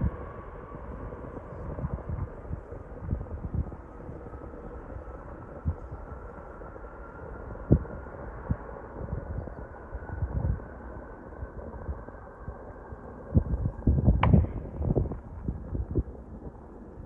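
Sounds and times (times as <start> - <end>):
distant jet engine rumble: 0.0 - 17.0
wind buffeting microphone: 0.0 - 17.0.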